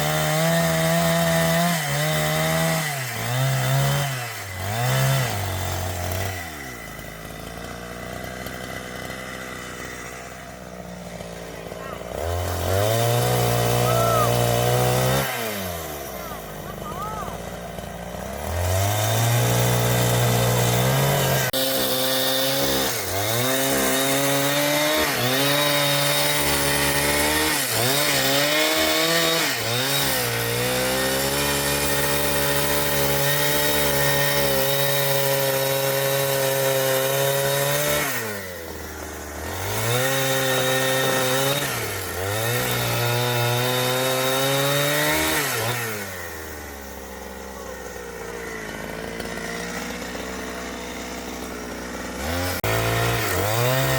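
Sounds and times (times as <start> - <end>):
chainsaw cutting timber: 0.0 - 53.9.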